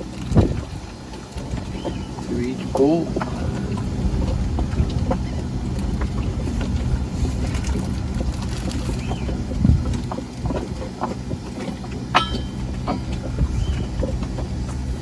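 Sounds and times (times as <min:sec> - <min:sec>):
motor humming and rumbling: 0:00.0 - 0:15.0.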